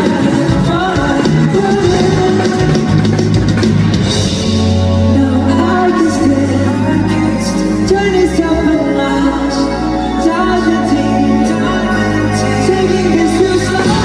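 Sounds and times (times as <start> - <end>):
pop song over sound system: 0.0 - 14.0.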